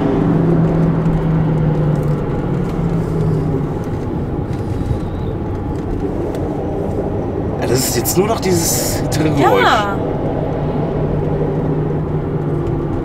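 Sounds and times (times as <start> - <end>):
road and tyre rumble: 0.0 - 9.4, 10.0 - 13.0.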